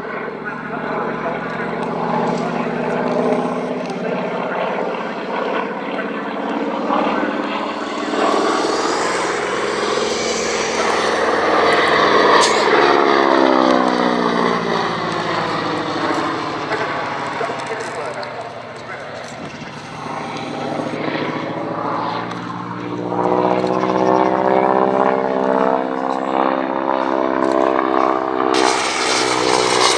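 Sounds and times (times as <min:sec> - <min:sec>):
aircraft flying past: 0:00.0 - 0:29.9.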